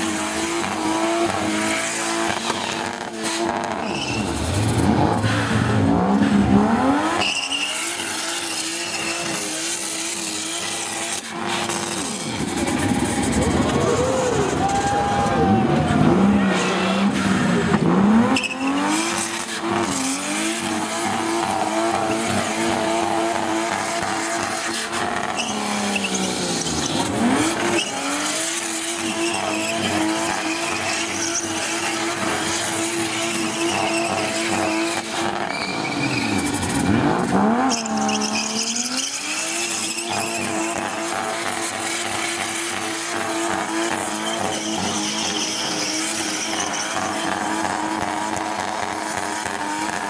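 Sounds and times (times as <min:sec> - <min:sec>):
engine revving high: 0:00.0 - 0:50.0
tyres spinning and squealing: 0:00.1 - 0:50.0.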